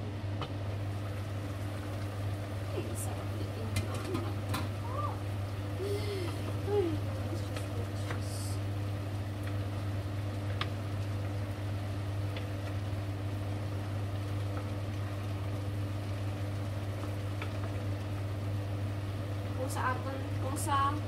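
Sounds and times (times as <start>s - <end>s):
steady low hum: 0.0s - 21.0s
vegetables simmering in a pot: 0.0s - 21.0s.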